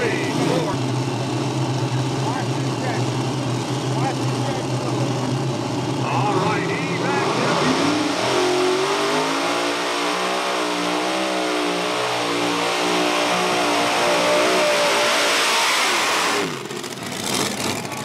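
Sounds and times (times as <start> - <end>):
tractor engines at full throttle: 0.0 - 18.0.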